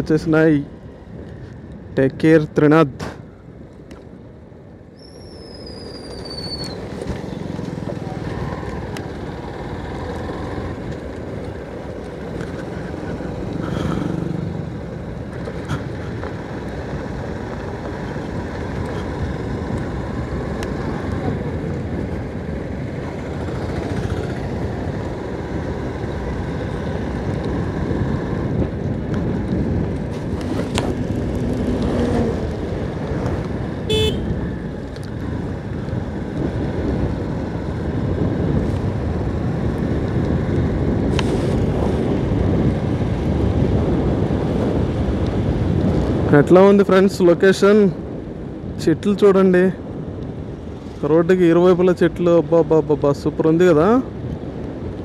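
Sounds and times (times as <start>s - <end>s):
motorcycle engine and tyre noise: 0.0s - 55.0s
wind rushing over microphone: 0.0s - 55.0s.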